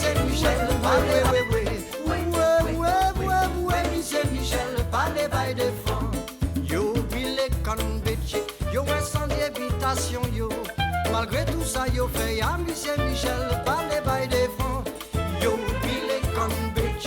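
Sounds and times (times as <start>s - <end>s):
latin dance music: 0.0s - 17.0s.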